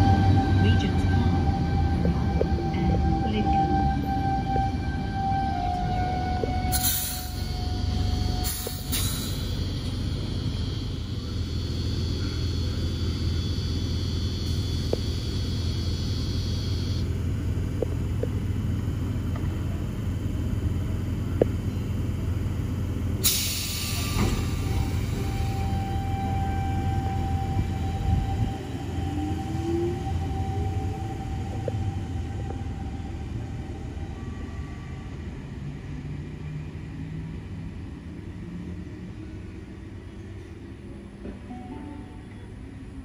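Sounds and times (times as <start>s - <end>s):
train equipment humming: 0.0s - 43.0s.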